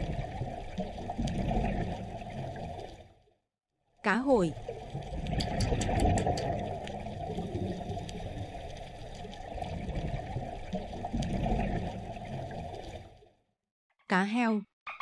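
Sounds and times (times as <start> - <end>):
stream water rushing underwater: 0.0 - 3.3, 4.4 - 13.4.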